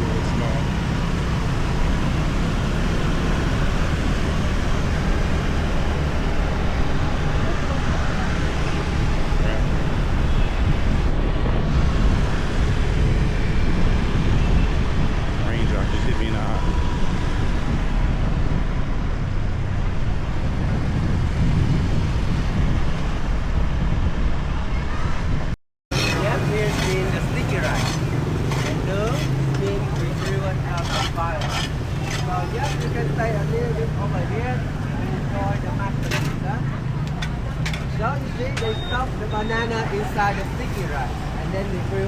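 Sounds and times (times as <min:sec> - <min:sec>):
motorbike road noise: 0:00.0 - 0:42.0.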